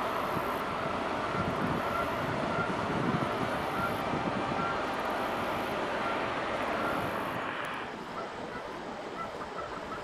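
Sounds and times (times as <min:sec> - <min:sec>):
ship engine drone: 0:00.0 - 0:10.0.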